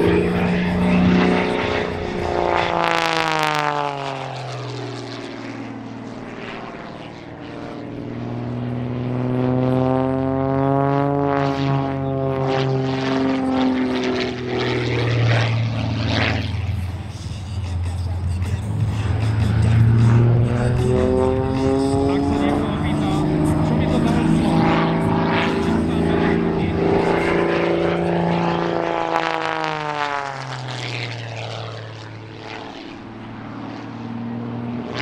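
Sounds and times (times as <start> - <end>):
aircraft piston engine and propeller: 0.0 - 35.0.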